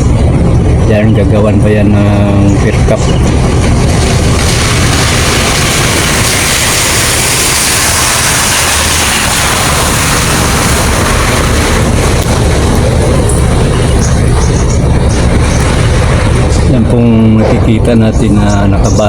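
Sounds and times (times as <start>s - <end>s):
vehicle rumble and rushing: 0.0s - 19.0s.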